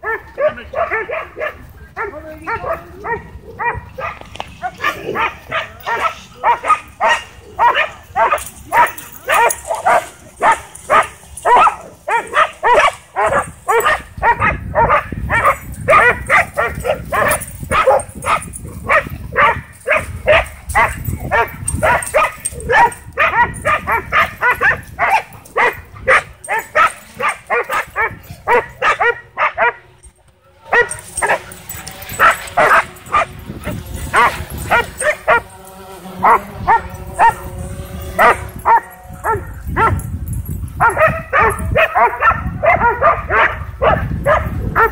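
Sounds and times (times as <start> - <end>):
dogs barking excitedly: 0.0 - 44.9.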